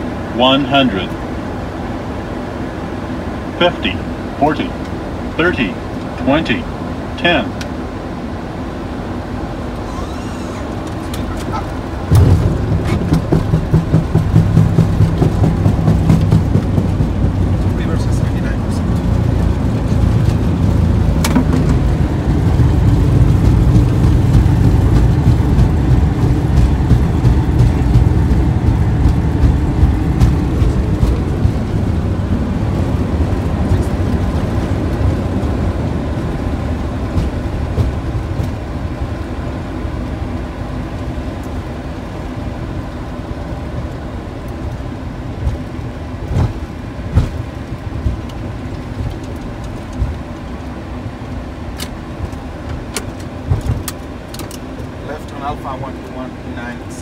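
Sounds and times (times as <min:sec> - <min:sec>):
aircraft landing rumble: 0:00.0 - 0:57.0.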